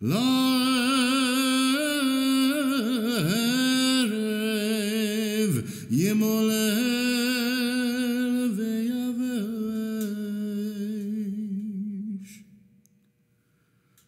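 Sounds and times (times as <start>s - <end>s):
man chanting with vibrato: 0.0s - 12.4s.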